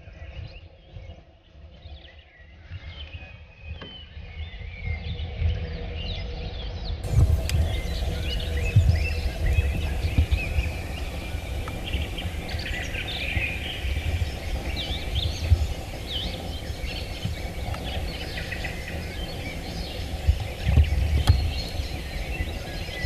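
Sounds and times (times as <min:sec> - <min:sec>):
songbirds chirping and singing: 0:00.0 - 0:23.0
steady low rumble: 0:04.3 - 0:23.0.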